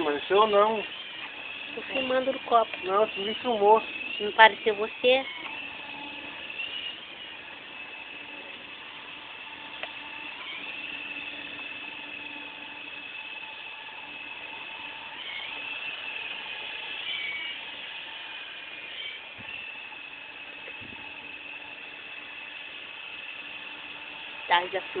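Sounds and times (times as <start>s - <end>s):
model helicopter motor whining: 0.0s - 25.0s.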